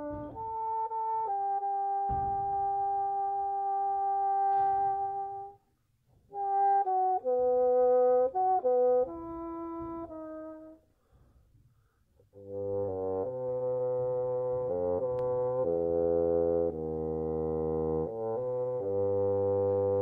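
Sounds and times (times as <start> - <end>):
bassoon playing: 0.0 - 5.7, 6.3 - 10.9, 12.3 - 20.0.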